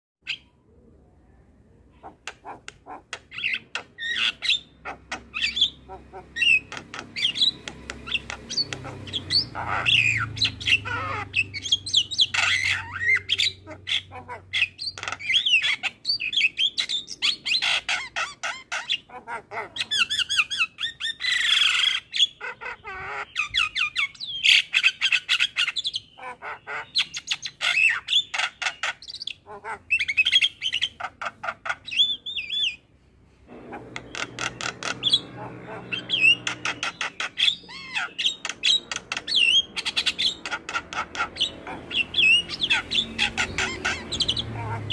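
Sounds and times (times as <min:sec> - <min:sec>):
myna bird singing: 0:00.2 - 0:44.9.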